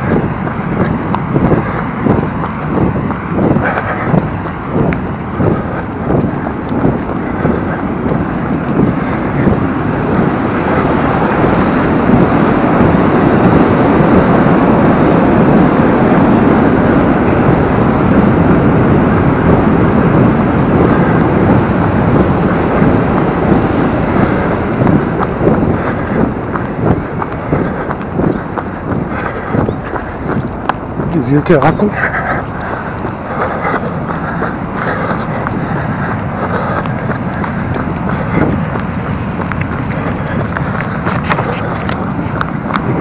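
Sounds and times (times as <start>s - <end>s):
wind rushing over microphone: 0.0s - 43.0s.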